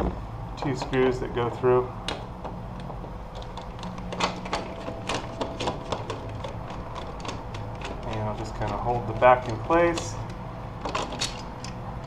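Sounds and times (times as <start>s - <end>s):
door handle clicks and taps: 2.0s - 11.8s.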